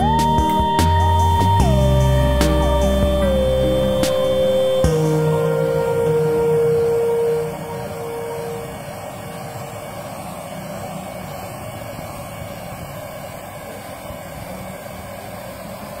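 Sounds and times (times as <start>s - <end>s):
hot air gun blowing: 0.0s - 16.0s.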